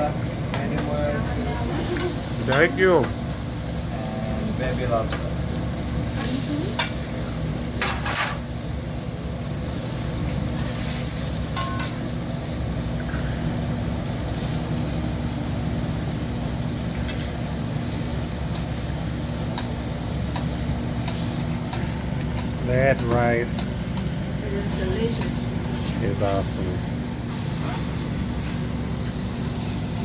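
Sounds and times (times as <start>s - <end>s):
food sizzling on a griddle: 0.0s - 30.0s.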